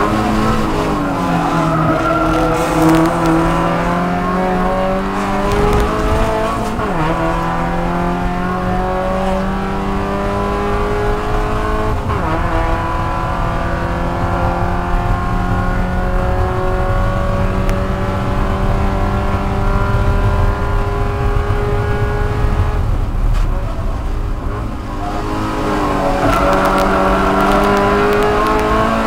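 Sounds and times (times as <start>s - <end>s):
car engine at full throttle: 0.0s - 29.0s.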